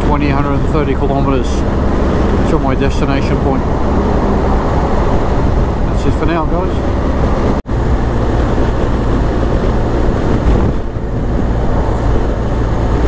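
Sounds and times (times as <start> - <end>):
wind rush: 0.0 - 13.0.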